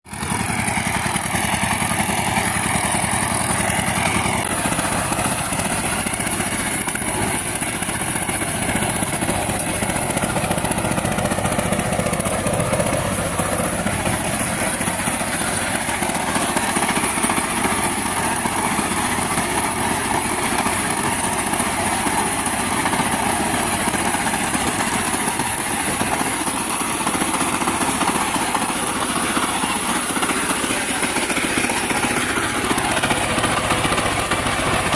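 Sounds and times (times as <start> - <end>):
power tiller engine running: 0.0 - 34.9.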